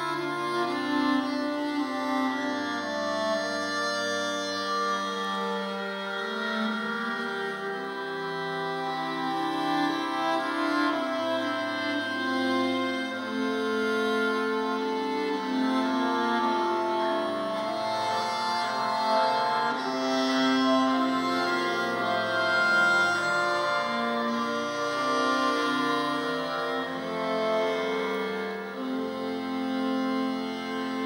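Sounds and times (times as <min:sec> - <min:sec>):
instrumental music with held notes: 0:00.0 - 0:31.0.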